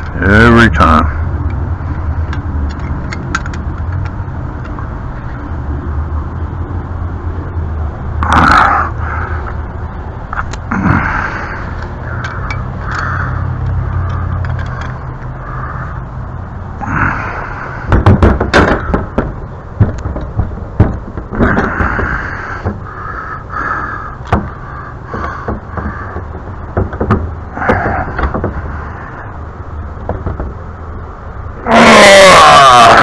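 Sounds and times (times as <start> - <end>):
steady low rumble: 0.0 - 31.7.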